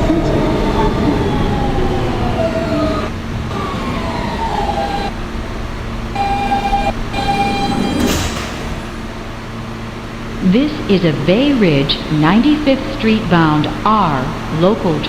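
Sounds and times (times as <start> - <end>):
subway train motor whining: 0.0 - 15.0
train car rumble: 0.0 - 15.0.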